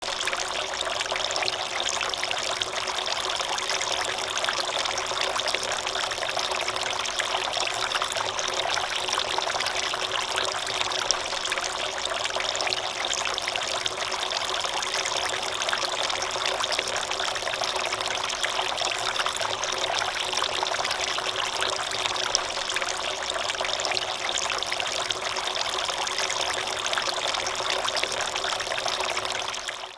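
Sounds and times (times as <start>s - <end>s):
fountain water trickling and splashing: 0.0s - 29.9s.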